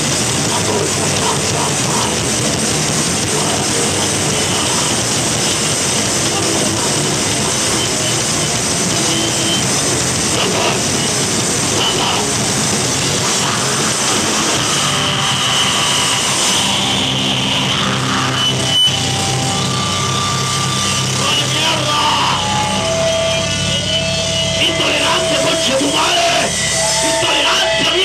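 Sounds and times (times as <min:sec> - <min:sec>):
metal band playing loud: 0:00.0 - 0:28.0.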